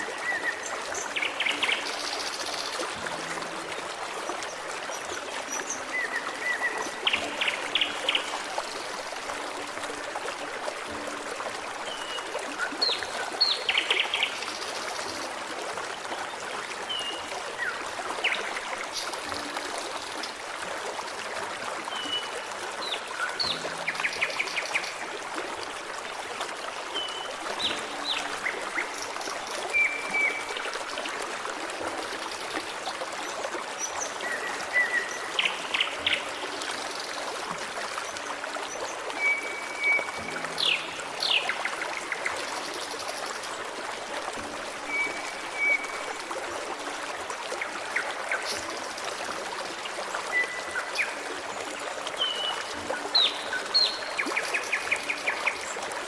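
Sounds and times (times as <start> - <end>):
forest stream trickling: 0.0 - 56.0.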